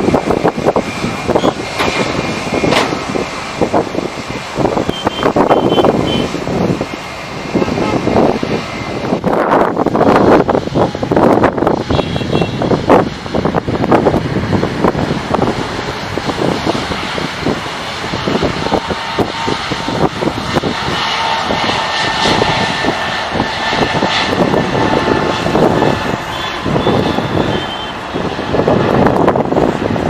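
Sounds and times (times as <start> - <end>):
thin engine whine: 0.0 - 9.8, 14.8 - 30.0
airliner engines roaring: 0.0 - 30.0
wind buffeting microphone: 0.0 - 30.0.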